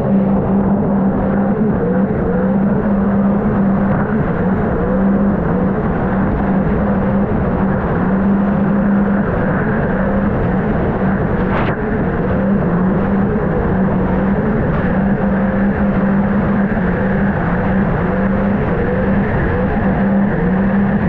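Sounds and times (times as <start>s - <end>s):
jet ski engine running: 0.0s - 21.0s
rush of wind and water: 0.0s - 21.0s.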